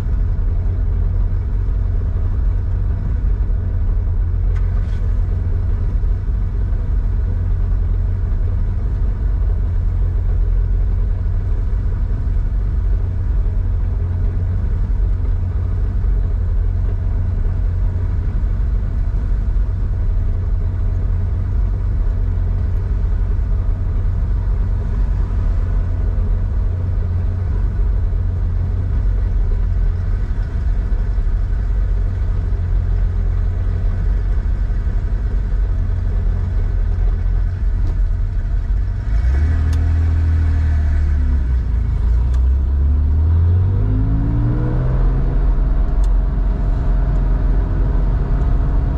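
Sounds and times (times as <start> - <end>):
car engine low rumble: 0.0 - 48.9.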